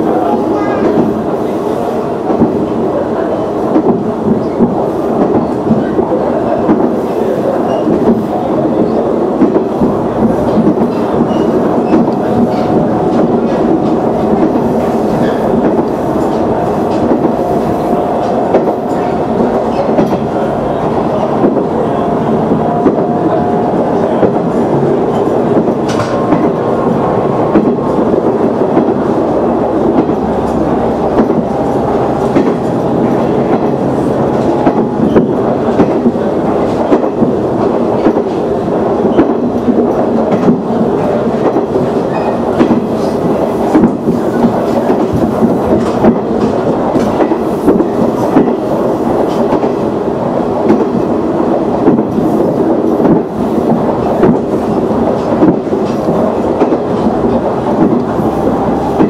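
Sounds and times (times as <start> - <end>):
diesel railcar engine drone: 0.0 - 59.0.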